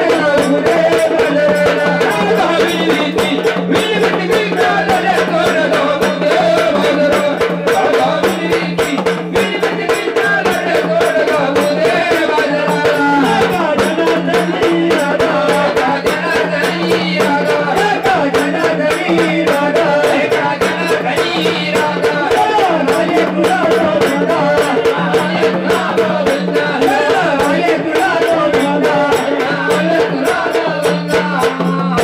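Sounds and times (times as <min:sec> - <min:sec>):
fast rattling percussion: 0:00.0 - 0:32.0
voices singing folk song: 0:00.0 - 0:32.0.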